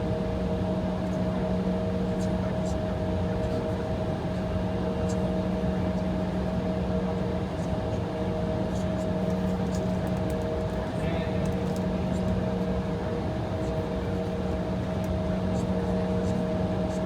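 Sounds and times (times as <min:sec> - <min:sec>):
aircraft cabin drone: 0:00.1 - 0:17.0.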